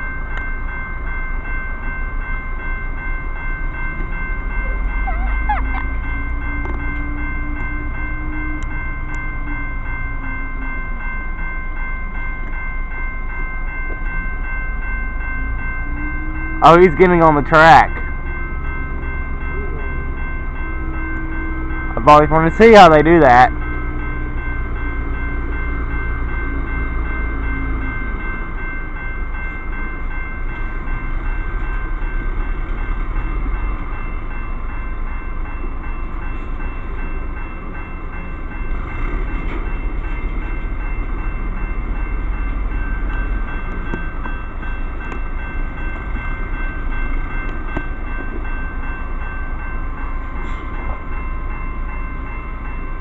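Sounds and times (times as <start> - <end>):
crossing bell ringing: 0.0 - 53.0
truck engine rumbling: 0.0 - 53.0.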